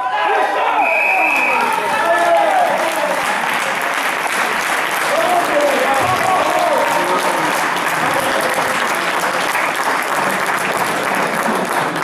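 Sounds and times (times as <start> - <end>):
audience applauding: 0.3 - 12.0.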